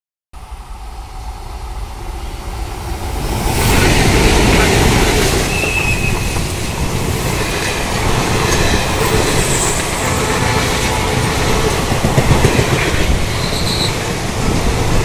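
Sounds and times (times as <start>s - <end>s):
train wheels rushing on rails: 0.4s - 15.0s.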